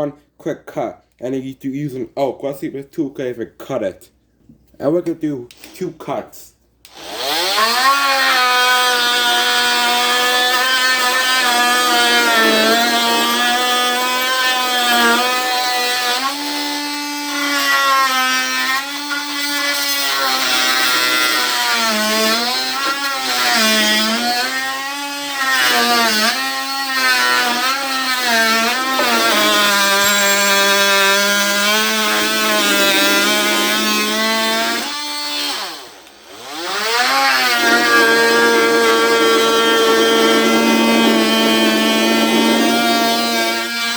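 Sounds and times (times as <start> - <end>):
oscillating multi-tool cutting wood: 6.9 - 43.9.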